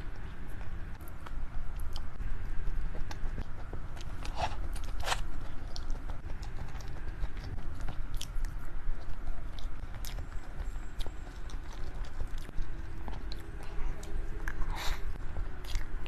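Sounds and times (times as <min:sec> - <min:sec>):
low steady hum: 0:00.0 - 0:16.0
person chewing and biting: 0:02.9 - 0:16.0.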